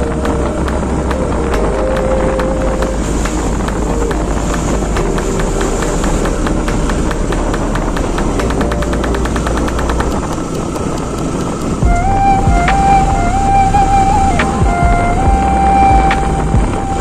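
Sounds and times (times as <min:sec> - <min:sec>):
fast regular ticking: 0:00.0 - 0:17.0
road and wind noise: 0:00.0 - 0:17.0.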